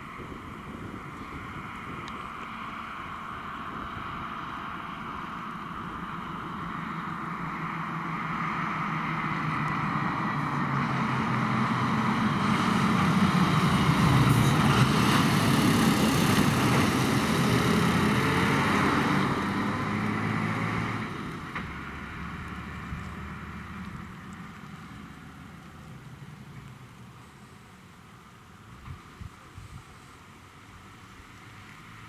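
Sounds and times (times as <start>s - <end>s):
diesel engine running: 0.0s - 27.6s
tyres hissing on road: 0.0s - 32.0s.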